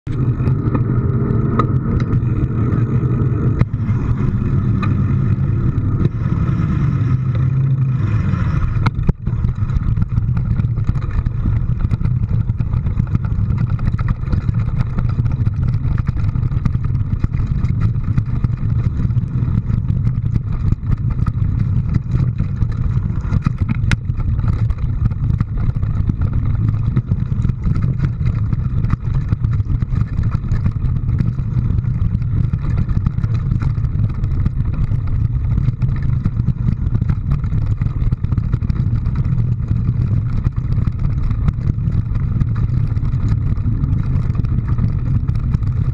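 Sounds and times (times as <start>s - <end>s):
vehicle engine droning: 0.0s - 45.9s
rain pattering: 0.1s - 45.9s.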